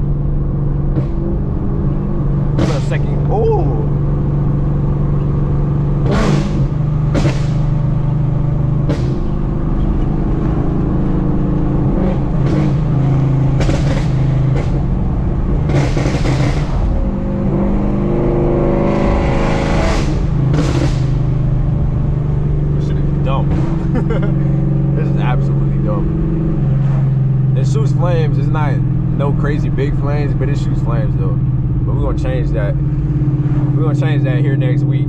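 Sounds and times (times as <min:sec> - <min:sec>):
car exhaust note: 0:00.0 - 0:35.0
exhaust popping and crackling: 0:00.0 - 0:35.0.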